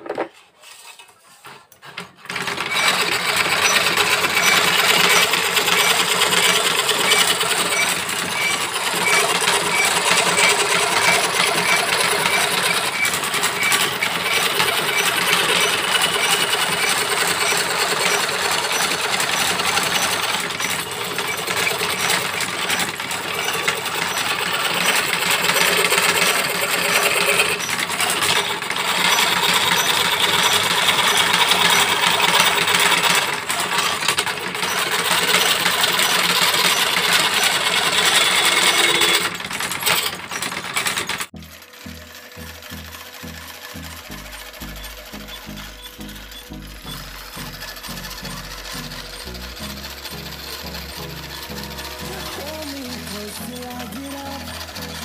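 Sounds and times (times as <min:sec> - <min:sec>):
rapid mechanical clatter: 0:01.4 - 0:55.0.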